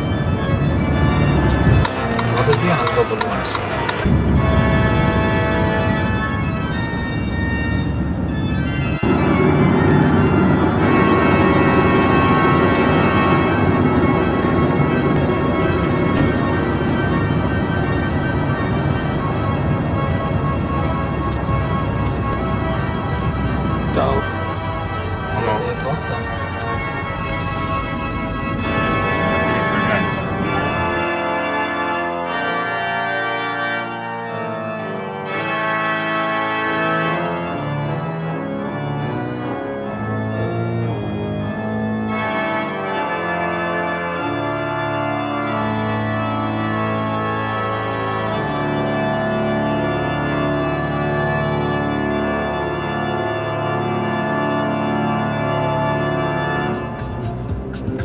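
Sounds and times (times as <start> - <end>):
organ playing held chords: 0.0 - 58.0.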